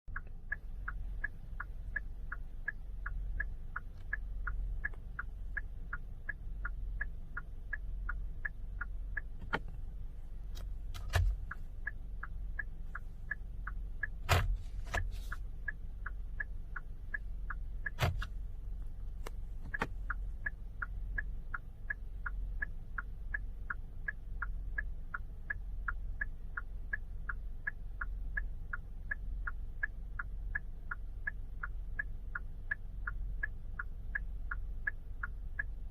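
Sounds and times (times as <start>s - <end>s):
low steady hum: 0.1s - 35.9s
turn signal ticking: 0.1s - 35.9s.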